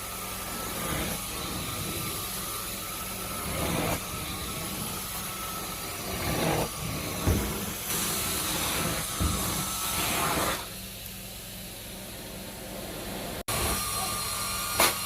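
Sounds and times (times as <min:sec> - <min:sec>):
vacuum cleaner suction: 0:00.0 - 0:15.0.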